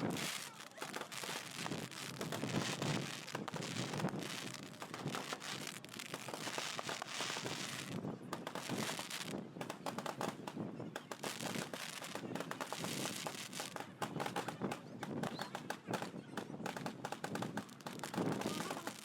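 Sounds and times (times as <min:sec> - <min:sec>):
fireworks crackling and popping: 0:00.0 - 0:19.0
steady outdoor hiss: 0:00.0 - 0:19.0.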